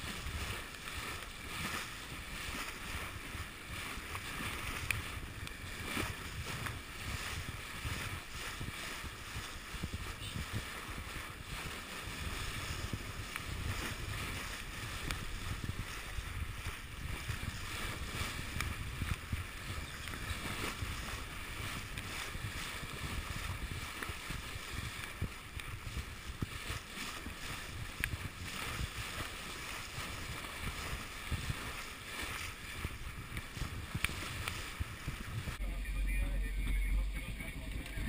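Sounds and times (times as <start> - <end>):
sharp water splashes: 0.0 - 35.6
water rushing along bow: 0.0 - 38.0
wind rumbling on microphone: 0.0 - 38.0.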